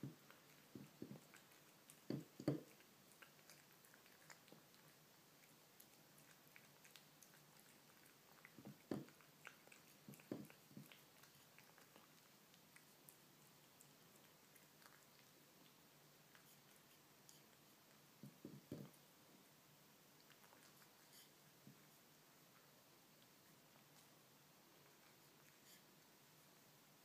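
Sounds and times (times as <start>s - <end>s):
kitten chewing food: 0.0s - 27.0s.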